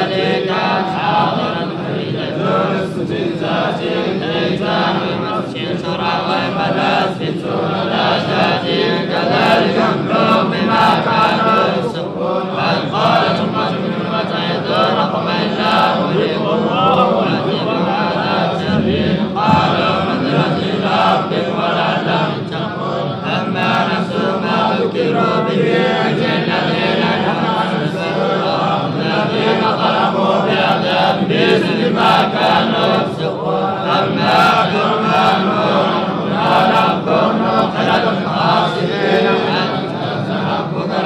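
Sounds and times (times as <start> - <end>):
men chanting recitation: 0.0 - 41.0.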